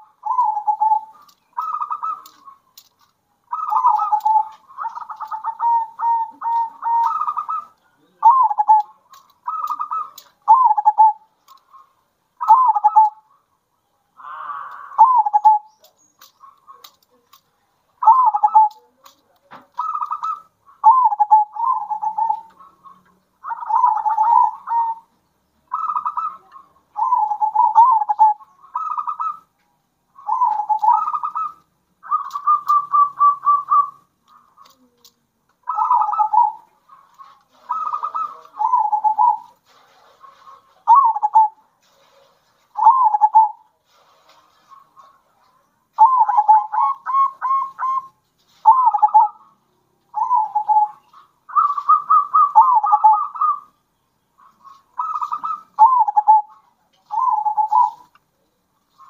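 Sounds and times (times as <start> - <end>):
doves cooing: 0.0 - 29.5, 30.1 - 53.8, 54.4 - 58.2.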